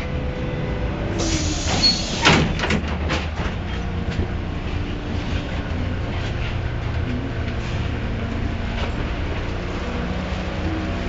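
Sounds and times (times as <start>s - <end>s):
trolleybus cabin rumble: 0.0s - 11.0s.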